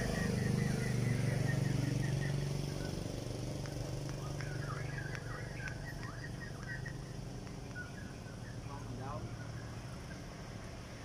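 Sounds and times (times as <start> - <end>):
birds chirping: 0.0 - 11.0
vehicle engine humming: 0.0 - 11.0.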